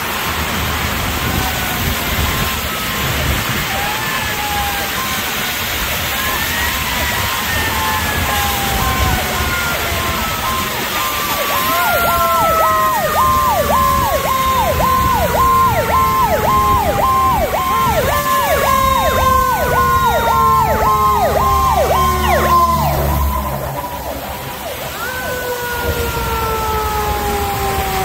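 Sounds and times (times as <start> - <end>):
heavy vehicle engine rumble: 0.0 - 28.0
rain and road spray hiss: 0.0 - 28.0
emergency siren fast cycle: 0.8 - 28.0
long siren tone sliding down: 1.1 - 28.0.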